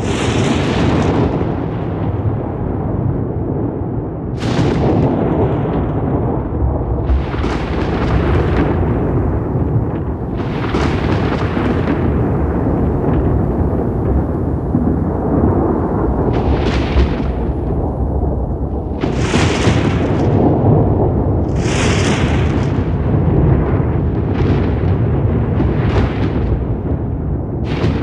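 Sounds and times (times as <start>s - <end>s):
deep thunder rumble: 0.0s - 28.0s
sharp crackling thunder peals: 0.0s - 28.0s.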